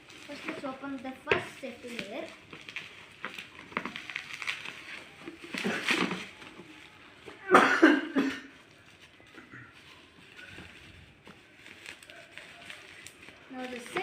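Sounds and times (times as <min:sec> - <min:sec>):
bubble wrap bursts: 0:00.0 - 0:14.0
bubble wrap crinkling: 0:00.0 - 0:14.0.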